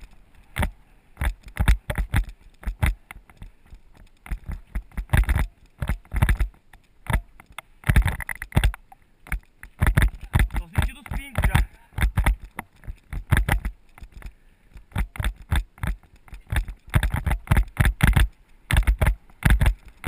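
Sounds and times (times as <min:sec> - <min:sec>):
bicycle knocks and rattles: 0:00.0 - 0:20.0.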